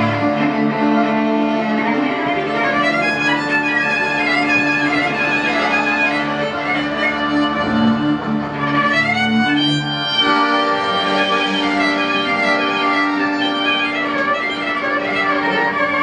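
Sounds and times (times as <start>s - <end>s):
fiddle melody: 0.0s - 16.0s
klezmer band playing: 0.0s - 16.0s.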